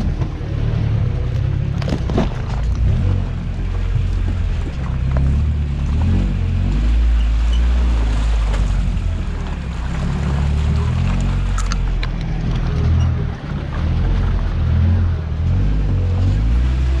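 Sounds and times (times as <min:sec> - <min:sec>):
truck knocks and rattles: 0:00.0 - 0:16.4
truck engine at low revs: 0:00.0 - 0:17.0.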